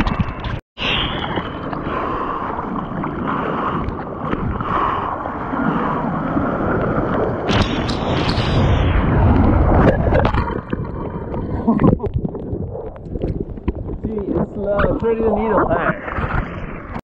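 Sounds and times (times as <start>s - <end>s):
water sloshing and splashing: 0.0s - 17.0s
wave breaking: 0.3s - 17.0s.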